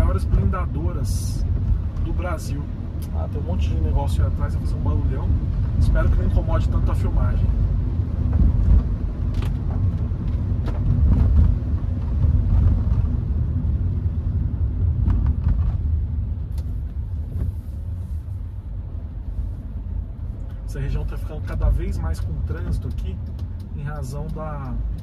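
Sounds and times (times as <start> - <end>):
car road rumble: 0.0 - 25.0.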